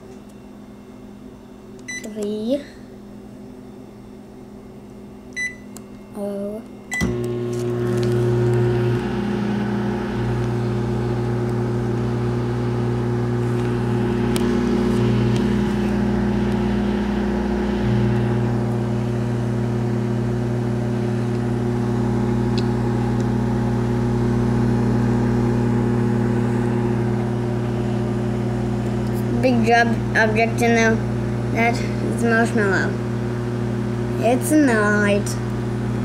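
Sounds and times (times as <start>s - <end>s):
microwave oven humming: 0.0s - 36.0s.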